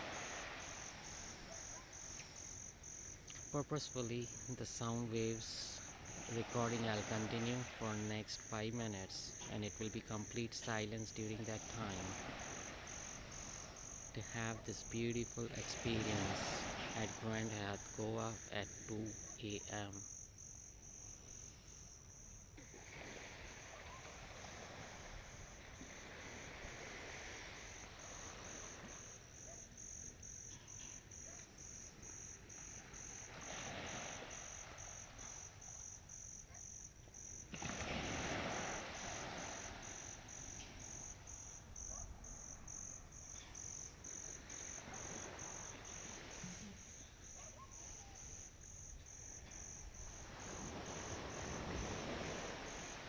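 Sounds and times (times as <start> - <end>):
crickets chirping: 0.0 - 53.0
ocean waves on shore: 0.0 - 53.0.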